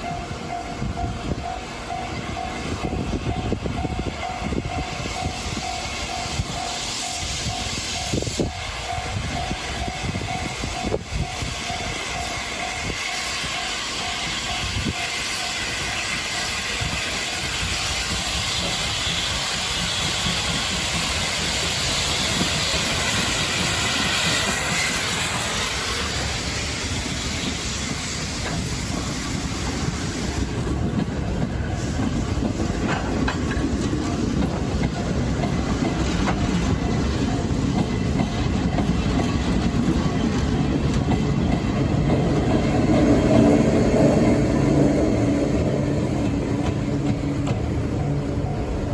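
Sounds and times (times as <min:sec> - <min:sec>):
train wheels clattering on rails: 0:00.0 - 0:48.9
steam hissing: 0:02.2 - 0:48.9.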